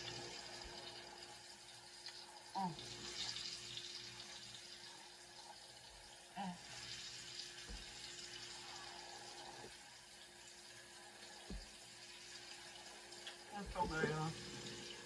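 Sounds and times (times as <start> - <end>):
room noise hiss and hum: 0.0 - 15.0.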